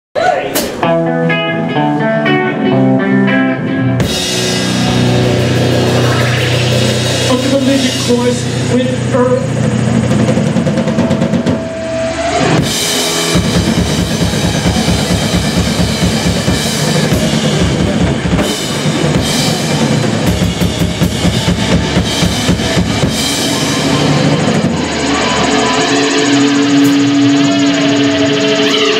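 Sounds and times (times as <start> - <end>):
bass guitar: 0.2 - 28.9
electric guitar: 0.3 - 28.9
drum kit: 3.8 - 28.9.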